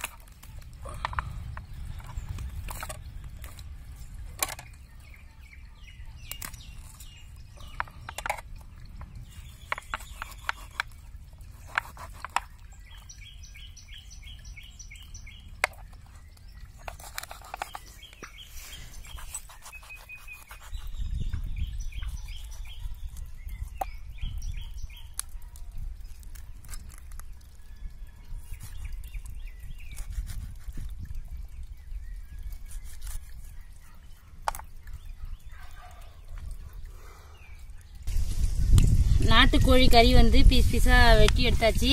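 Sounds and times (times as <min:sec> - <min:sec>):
birds chirping: 0:00.0 - 0:38.2.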